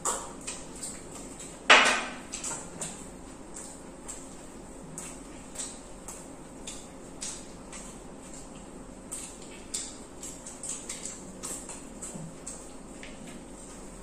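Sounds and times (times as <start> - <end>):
chewing clicks and smacks: 0.0 - 1.7, 2.3 - 14.0.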